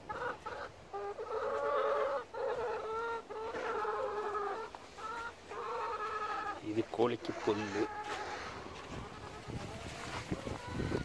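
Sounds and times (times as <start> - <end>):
hens calling: 0.0 - 11.0.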